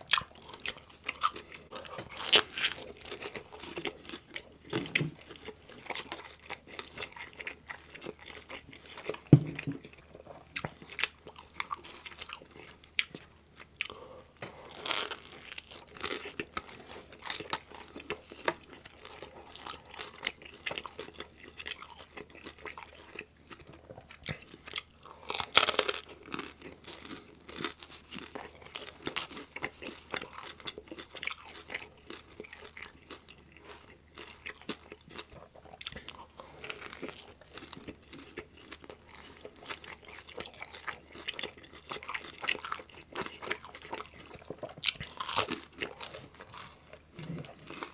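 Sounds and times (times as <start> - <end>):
chewing and biting pizza: 0.0 - 47.9.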